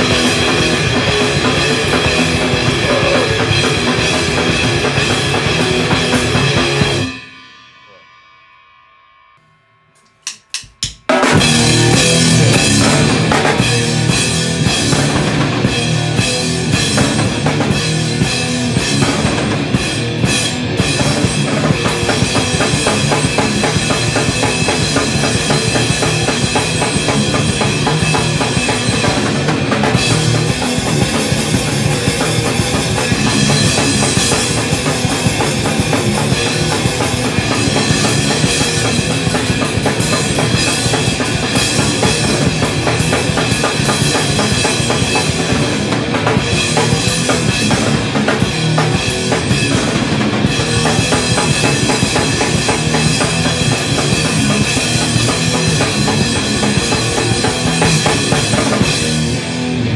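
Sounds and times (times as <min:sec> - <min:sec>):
rock band playing loud: 0:00.0 - 0:07.9, 0:10.2 - 0:59.9
pounding drum kit: 0:00.0 - 0:08.0, 0:10.0 - 0:59.9.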